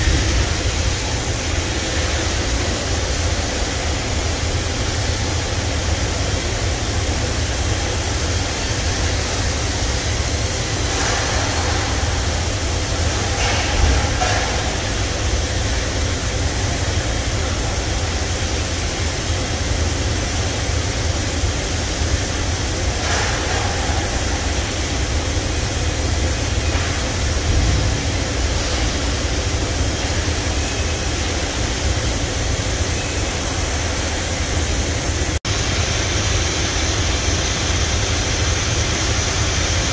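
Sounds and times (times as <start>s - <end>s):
coolant spraying hiss: 0.0s - 39.9s
low machine hum: 0.0s - 39.9s.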